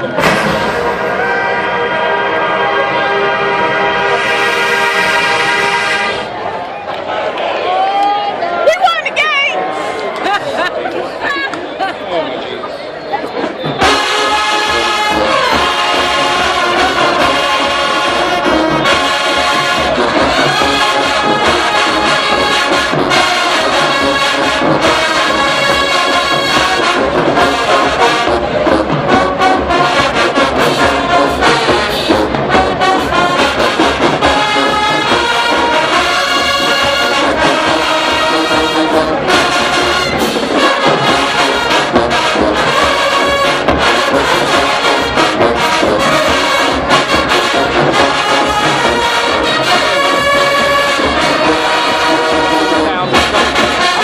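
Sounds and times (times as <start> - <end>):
marching band brass music: 0.0 - 7.6, 8.6 - 11.0, 13.1 - 54.0.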